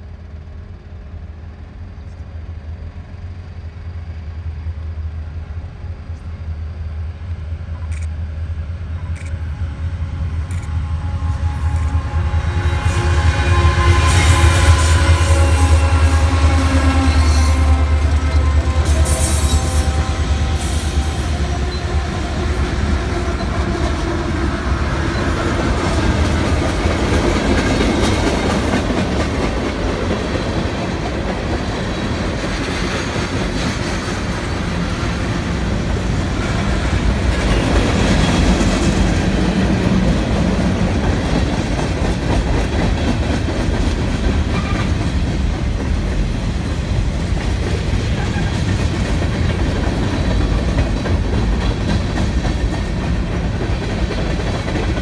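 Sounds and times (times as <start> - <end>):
diesel locomotive engine drone: 0.0 - 55.0
train wheels rumbling on rail: 0.0 - 55.0.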